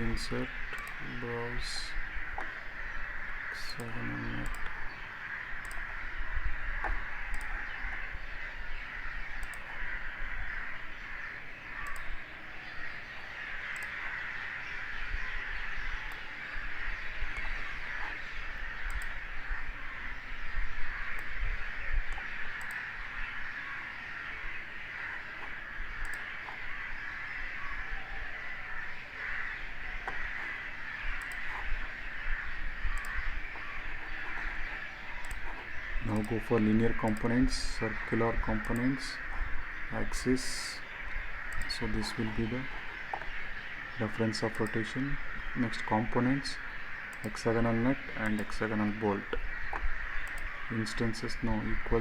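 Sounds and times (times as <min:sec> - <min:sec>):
faint clicks: 0:00.0 - 0:12.3, 0:13.0 - 0:20.0, 0:20.9 - 0:27.7, 0:28.4 - 0:52.0.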